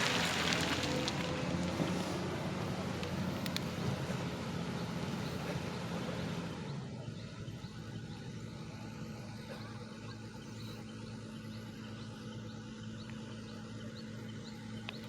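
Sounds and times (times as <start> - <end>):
construction machinery engine humming: 0.0 - 15.0.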